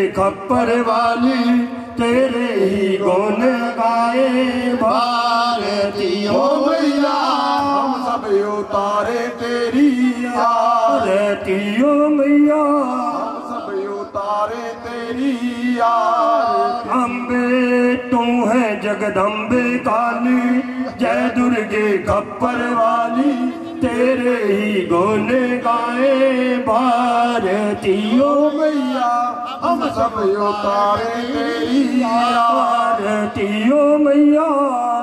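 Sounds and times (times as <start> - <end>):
men singing a hymn: 0.0 - 35.0.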